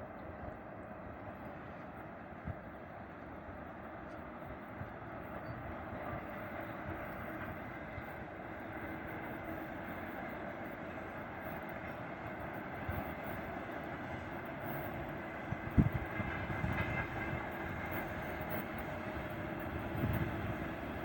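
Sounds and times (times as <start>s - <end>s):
faint locomotive whine: 0.0s - 21.0s
freight train rumbling: 0.0s - 21.0s.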